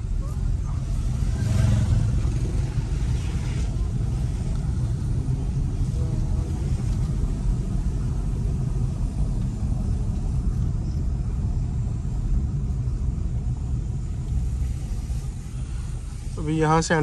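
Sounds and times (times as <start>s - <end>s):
car driving slowly: 0.0s - 17.0s.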